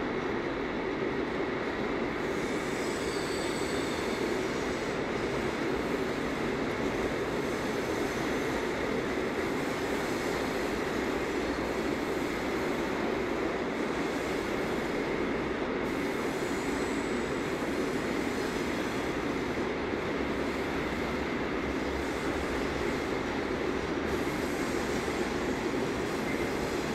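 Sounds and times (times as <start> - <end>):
freight train wheels rumbling: 0.0 - 26.9.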